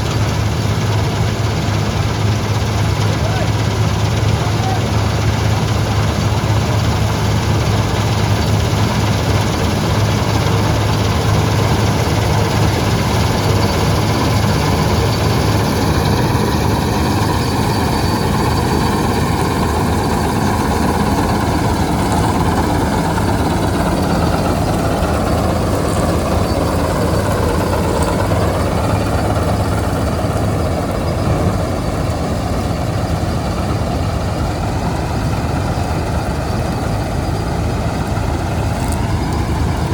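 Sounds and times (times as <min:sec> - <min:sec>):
combine harvester engine hum: 0:00.0 - 0:39.9
rush of machinery: 0:02.4 - 0:39.9.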